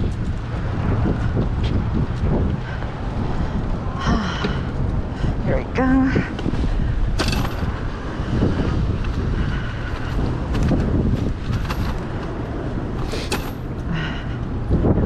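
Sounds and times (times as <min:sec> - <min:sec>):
tyre and road noise: 0:00.0 - 0:15.0
wind rumbling on microphone: 0:00.0 - 0:15.0.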